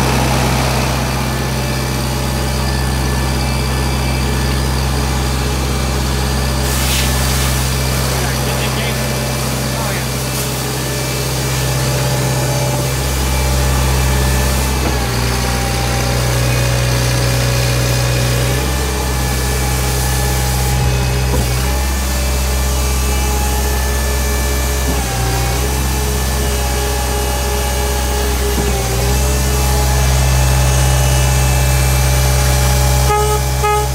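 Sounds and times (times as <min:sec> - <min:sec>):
paver engine running: 0:00.0 - 0:33.9.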